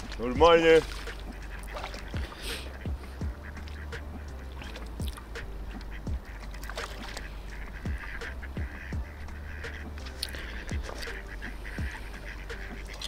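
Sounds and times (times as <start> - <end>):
steady low rumble: 0.0 - 13.0
waterfowl calling: 0.0 - 13.0.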